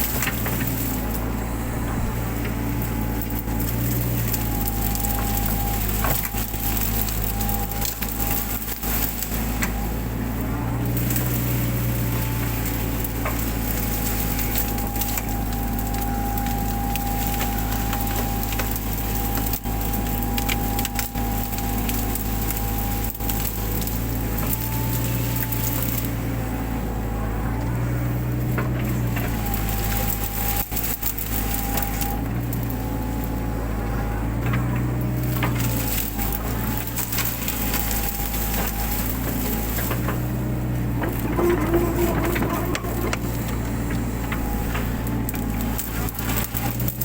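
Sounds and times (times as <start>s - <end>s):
brush and branches snapping: 0.0s - 47.0s
excavator engine running under load: 0.0s - 47.0s.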